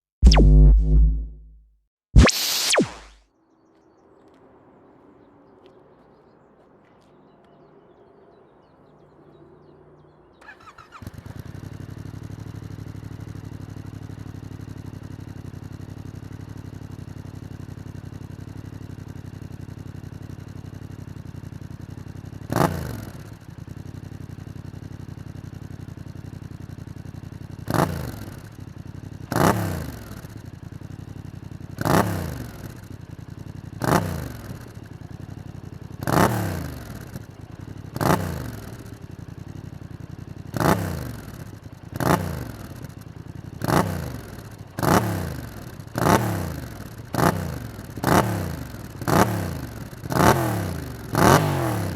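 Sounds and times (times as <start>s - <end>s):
motorcycle engine idling and revving: 3.4s - 51.9s
motorcycle engine starting: 7.8s - 51.9s.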